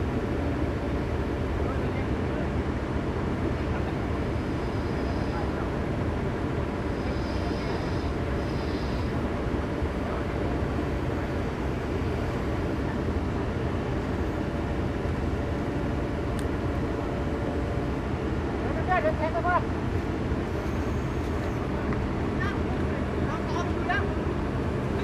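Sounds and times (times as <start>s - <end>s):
diesel engine rumble: 0.0s - 25.0s.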